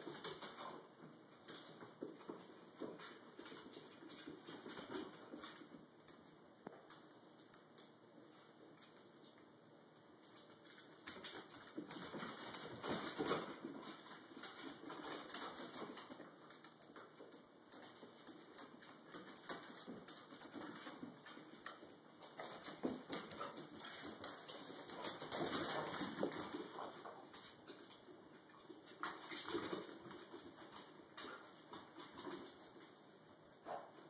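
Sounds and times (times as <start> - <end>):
dogs scuffling: 0.0 - 34.0.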